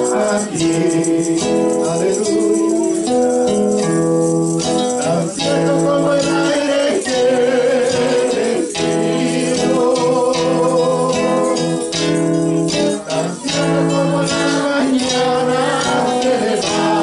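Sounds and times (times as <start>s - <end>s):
acoustic guitar: 0.0s - 17.0s
jingling percussion: 0.0s - 17.0s
man singing: 0.0s - 17.0s.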